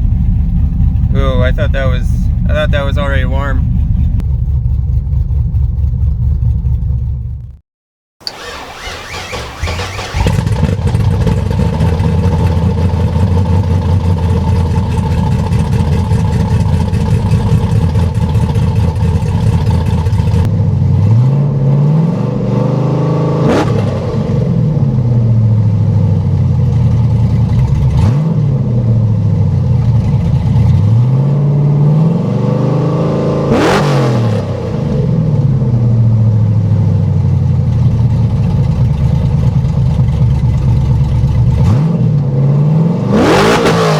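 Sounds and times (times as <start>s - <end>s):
truck engine idling and revving: 0.0s - 7.6s, 8.2s - 43.9s.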